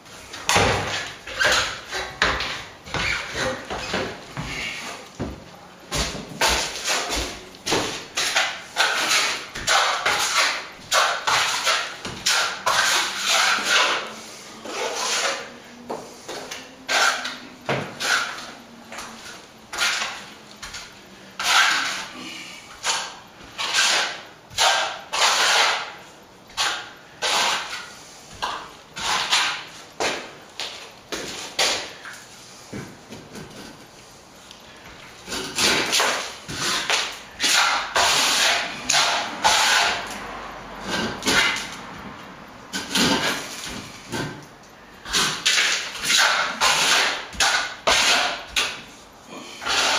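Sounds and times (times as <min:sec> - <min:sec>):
trowel scraping plaster: 0:00.3 - 0:05.1, 0:05.9 - 0:30.3, 0:35.2 - 0:40.2, 0:40.8 - 0:41.8, 0:42.7 - 0:44.4, 0:45.0 - 0:49.0, 0:49.6 - 0:49.9.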